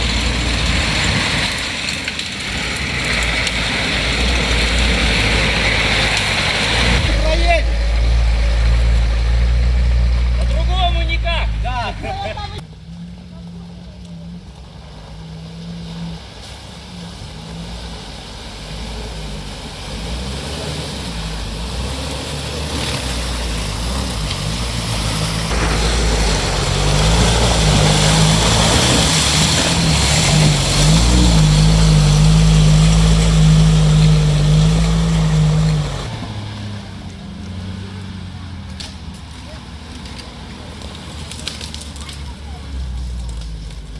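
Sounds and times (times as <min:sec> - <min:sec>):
off-road vehicle engine revving: 0:00.0 - 0:43.9.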